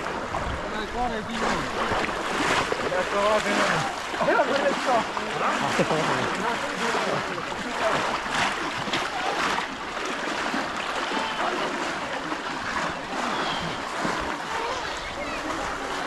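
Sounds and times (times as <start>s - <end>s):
stream water splashing: 0.0s - 16.0s.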